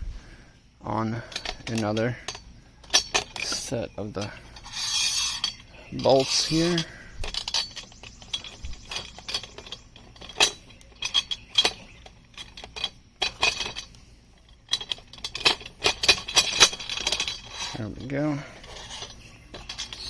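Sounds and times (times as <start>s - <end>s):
hardware clicking and clinking: 1.2s - 20.0s.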